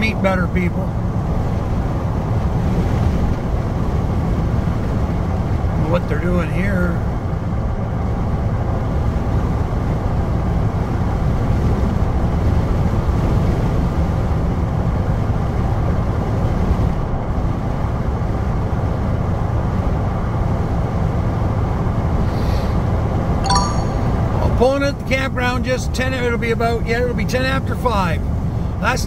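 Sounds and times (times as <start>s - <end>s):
engine and road noise in cab: 0.0s - 23.4s, 24.5s - 29.0s.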